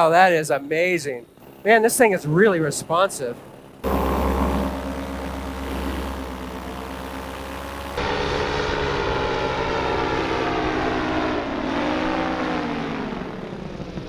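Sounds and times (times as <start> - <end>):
paramotor engine and propeller: 1.2 - 14.0.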